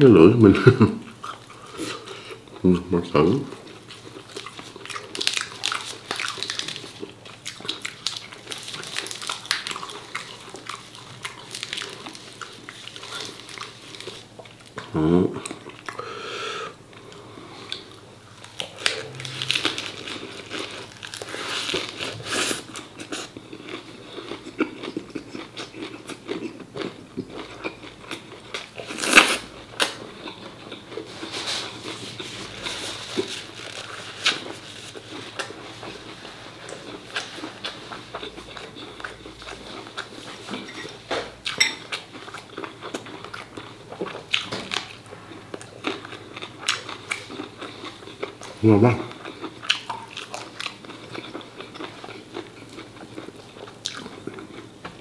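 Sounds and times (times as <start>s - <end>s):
person chewing close up: 1.1s - 16.1s, 16.9s - 55.0s.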